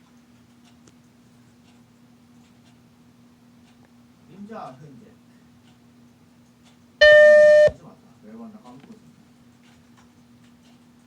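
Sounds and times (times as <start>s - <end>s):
low electrical hum: 0.0s - 9.5s.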